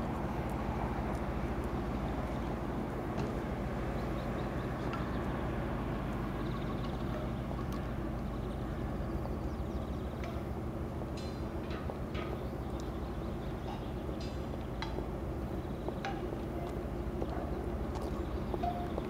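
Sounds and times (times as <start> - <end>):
diesel train engine droning: 0.0 - 19.0.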